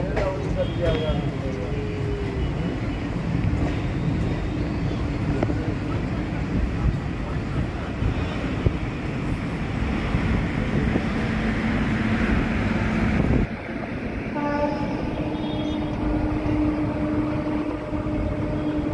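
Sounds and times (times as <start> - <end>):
train rumbling: 0.0 - 18.9.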